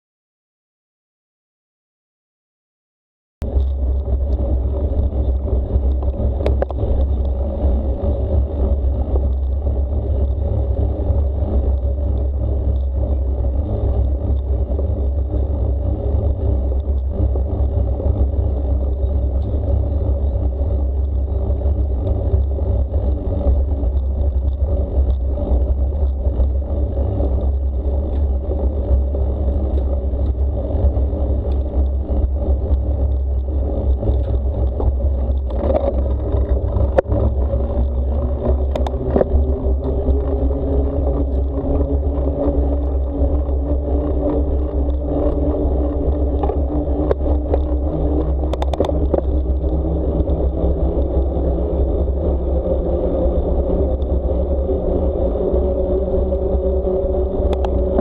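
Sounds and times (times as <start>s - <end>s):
bicycle rolling noise: 3.4s - 58.0s
wind rumble: 3.4s - 58.0s.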